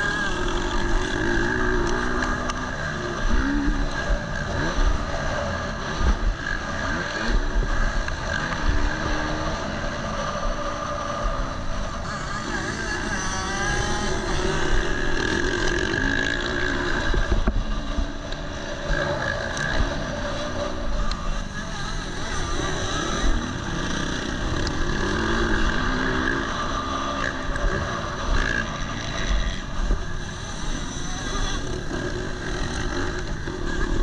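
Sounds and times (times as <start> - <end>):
motocross engine revving: 0.0 - 34.0.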